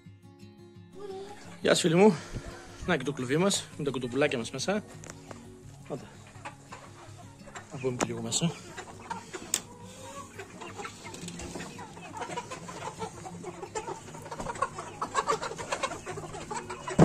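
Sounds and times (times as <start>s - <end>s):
young chickens clucking: 1.0s - 17.0s.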